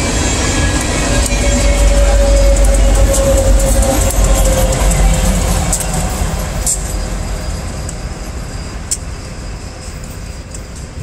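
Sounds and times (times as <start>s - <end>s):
diesel train rumbling past: 0.0s - 11.0s.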